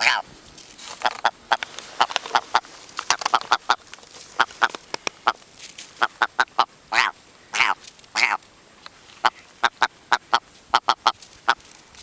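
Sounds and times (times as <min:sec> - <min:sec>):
grouse calling: 0:00.8 - 0:08.4, 0:09.1 - 0:11.7.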